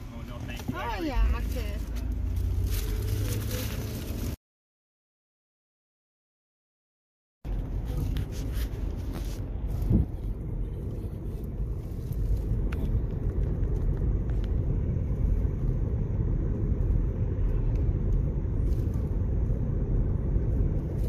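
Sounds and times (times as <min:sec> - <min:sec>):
moving car rumble: 0:00.0 - 0:04.4, 0:07.4 - 0:21.0.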